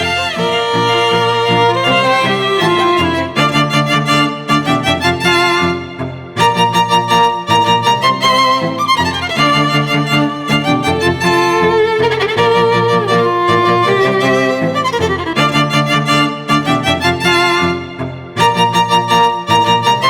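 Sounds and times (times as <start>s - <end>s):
violin-led background music: 0.0s - 20.0s.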